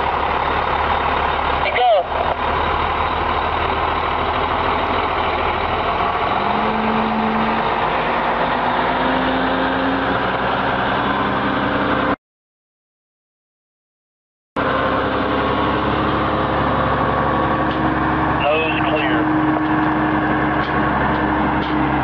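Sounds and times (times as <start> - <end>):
truck diesel engine passing: 0.0 - 12.2, 14.6 - 22.0.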